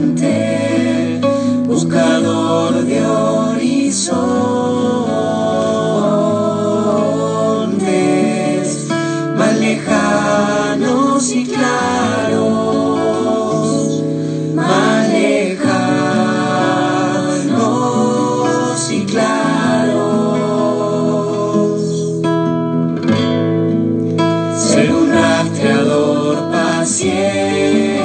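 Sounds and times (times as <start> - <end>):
voices singing held notes: 0.0 - 22.2, 24.6 - 28.0.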